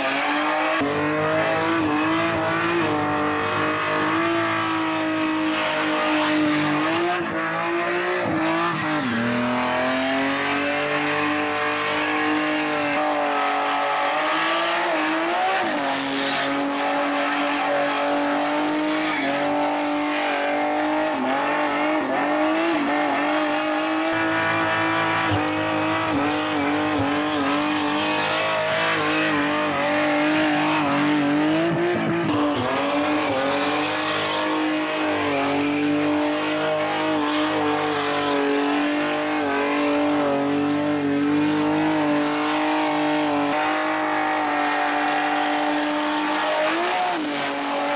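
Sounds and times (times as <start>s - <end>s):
car engine at high revs: 0.0s - 47.9s.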